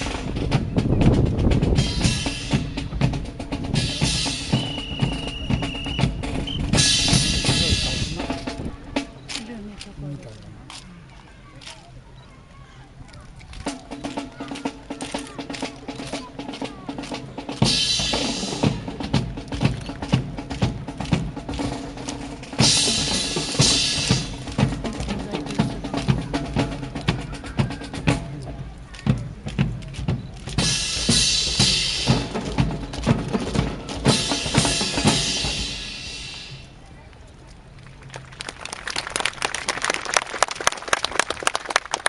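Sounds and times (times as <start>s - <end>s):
drums playing a march beat: 0.0s - 10.8s, 13.4s - 36.8s.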